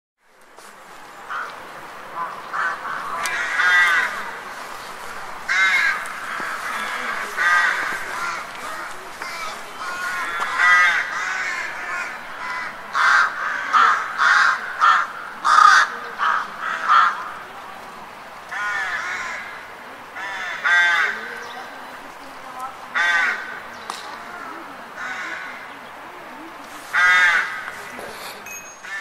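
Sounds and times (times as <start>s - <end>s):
crows cawing: 1.3s - 17.5s, 18.5s - 21.5s, 22.9s - 25.8s, 26.9s - 29.0s.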